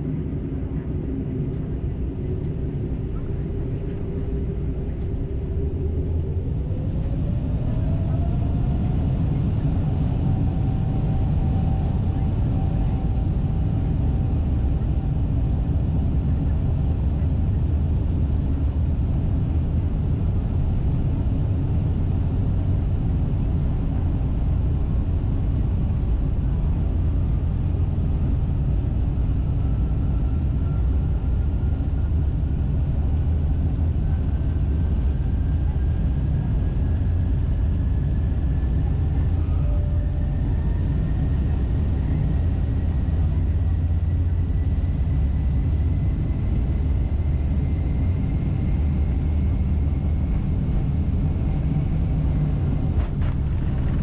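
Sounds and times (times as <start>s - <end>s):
faint rising engine whine: 0.0s - 54.0s
jet engines rumbling in cabin: 0.0s - 54.0s.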